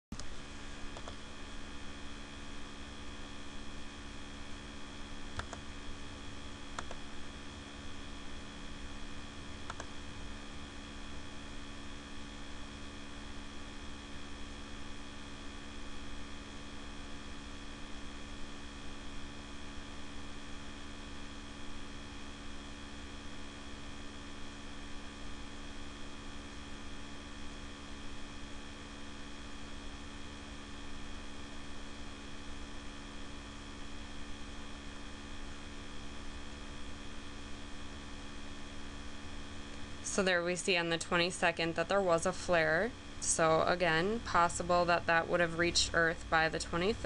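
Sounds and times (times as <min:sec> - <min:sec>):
laptop cooler fan humming: 0:00.1 - 0:47.0.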